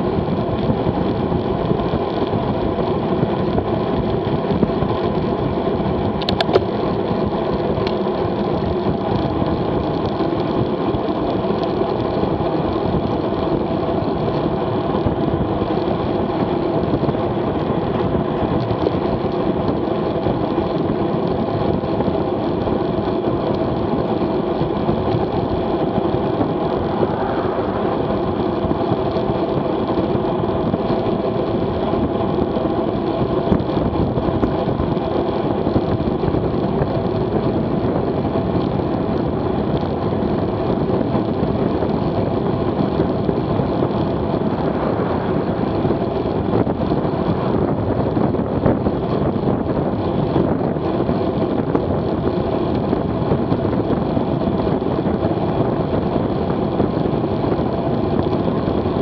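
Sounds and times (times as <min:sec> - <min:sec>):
tyres humming on asphalt: 0:00.0 - 0:59.0
wind noise on microphone: 0:00.0 - 0:59.0.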